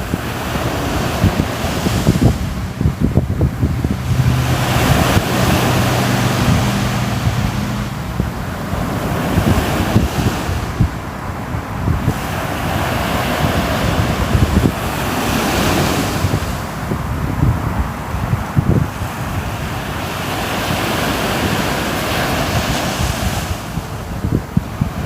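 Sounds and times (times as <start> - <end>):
sea surf breaking: 0.0 - 25.0
wind: 0.0 - 25.0.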